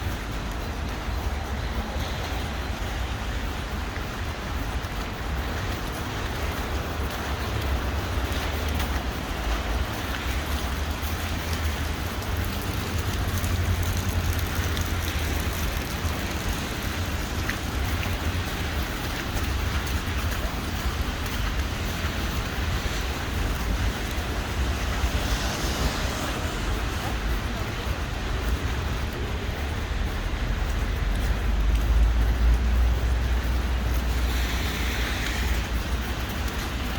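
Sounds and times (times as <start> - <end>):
city street hiss: 0.0 - 36.9.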